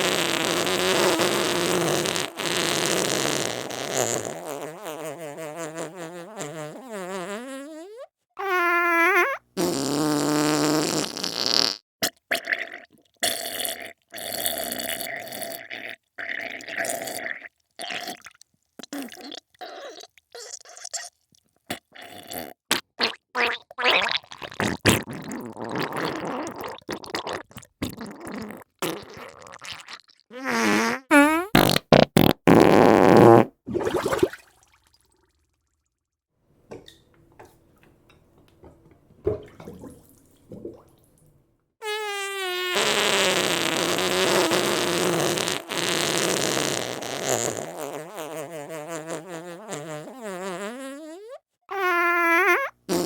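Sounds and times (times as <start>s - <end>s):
fart sounds: 0.0s - 21.1s, 21.7s - 34.4s, 41.8s - 53.0s.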